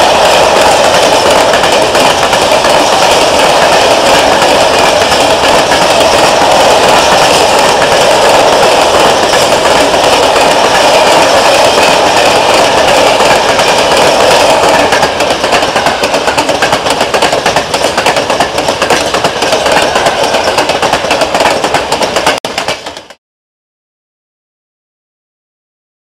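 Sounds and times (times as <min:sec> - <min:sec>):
freight train wheels on rails: 0:00.0 - 0:23.2.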